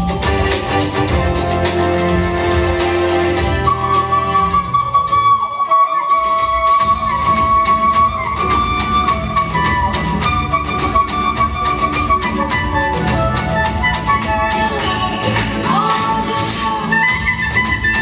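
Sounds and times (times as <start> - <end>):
backing track with bass and beat: 0.0 - 18.0
flute melody: 0.0 - 18.0.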